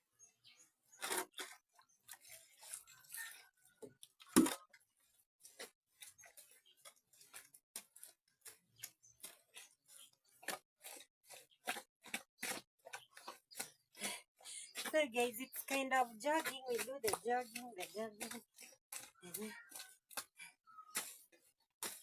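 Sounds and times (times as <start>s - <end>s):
feet squelching in wet mud: 1.4s - 22.0s.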